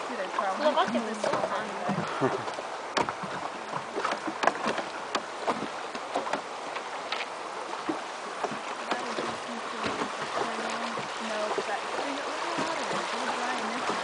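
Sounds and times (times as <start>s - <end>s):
flowing water rushing: 0.0s - 14.0s
river water lapping against wooden hull: 0.0s - 14.0s.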